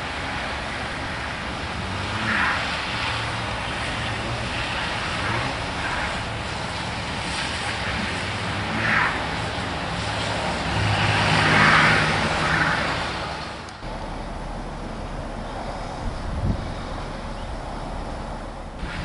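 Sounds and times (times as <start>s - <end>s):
car engine running under load: 0.0s - 19.0s
traffic rumble: 0.0s - 19.0s
tyres hissing on wet road: 0.0s - 19.0s.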